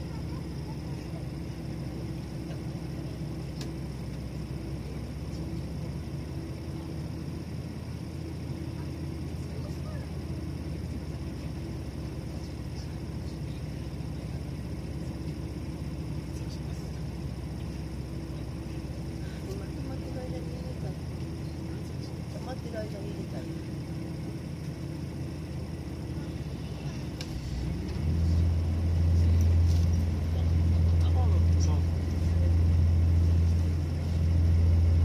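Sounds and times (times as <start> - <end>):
low mechanical vehicle hum: 0.0 - 35.0.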